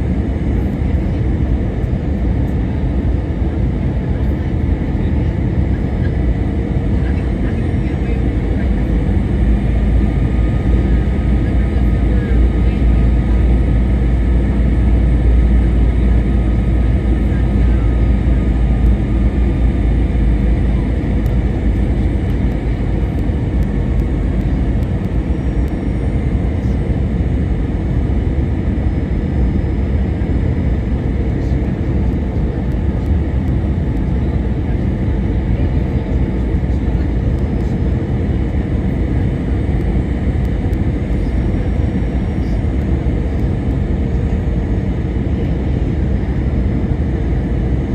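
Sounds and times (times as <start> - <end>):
airplane cabin engine rumble: 0.0 - 47.9
faint engine tones: 0.0 - 47.9.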